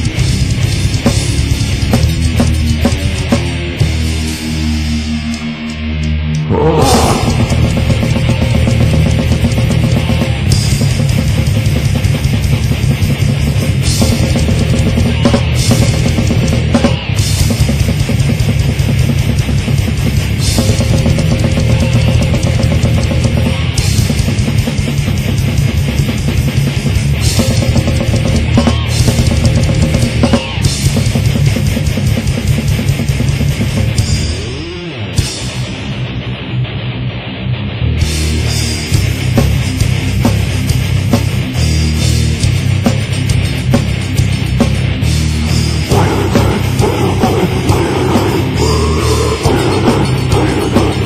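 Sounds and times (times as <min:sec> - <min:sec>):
death metal music: 0:00.0 - 0:51.0.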